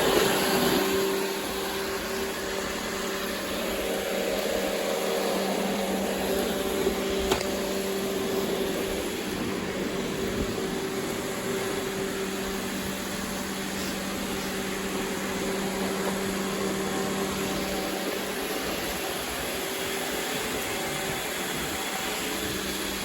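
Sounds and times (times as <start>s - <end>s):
robot vacuum humming: 0.0s - 23.0s.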